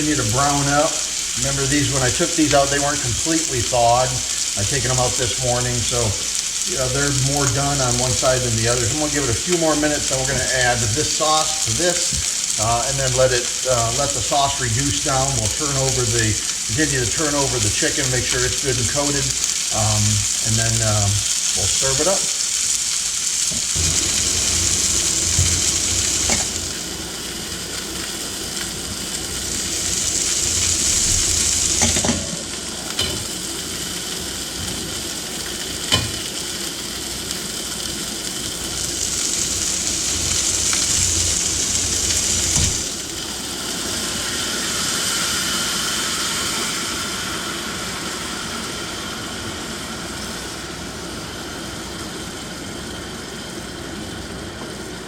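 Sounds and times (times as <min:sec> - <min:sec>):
chicken wings sizzling in a pan: 0:00.0 - 0:55.0.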